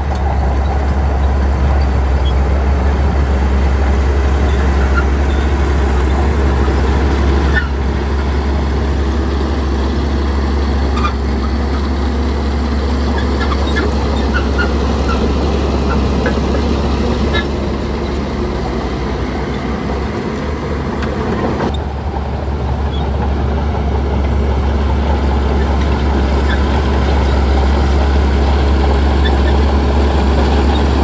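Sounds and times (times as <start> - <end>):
diesel construction machinery drone: 0.0 - 31.0.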